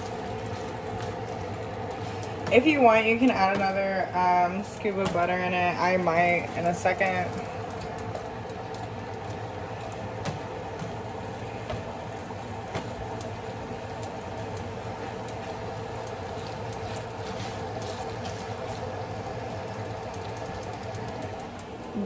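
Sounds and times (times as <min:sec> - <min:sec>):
chicken sizzling in a frying pan: 0:00.0 - 0:22.0
steady mechanical hum: 0:00.0 - 0:22.0.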